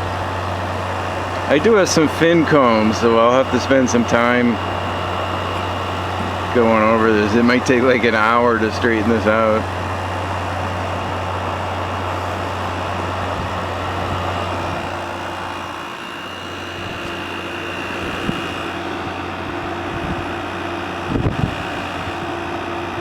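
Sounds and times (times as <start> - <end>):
air conditioner running: 0.0 - 23.0.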